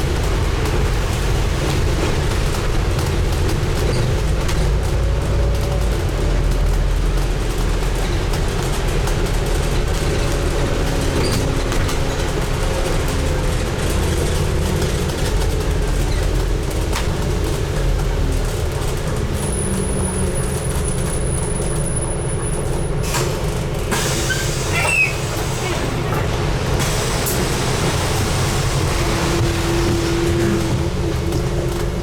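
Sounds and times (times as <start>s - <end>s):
bus engine rumble: 0.0s - 32.0s.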